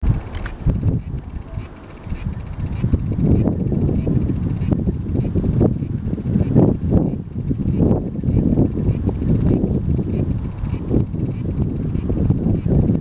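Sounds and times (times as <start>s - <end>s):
cicada buzzing: 0.0s - 13.0s.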